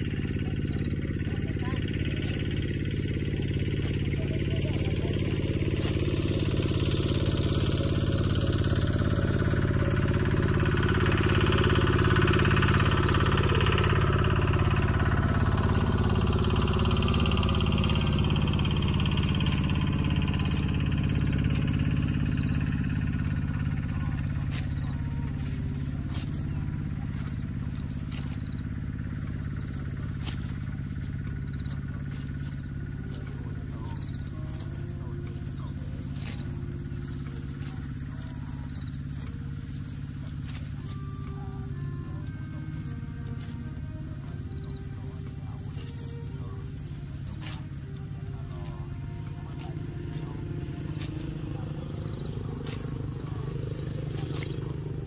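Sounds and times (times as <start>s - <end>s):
low engine hum: 0.0s - 55.0s
motorcycle passing: 0.0s - 55.0s.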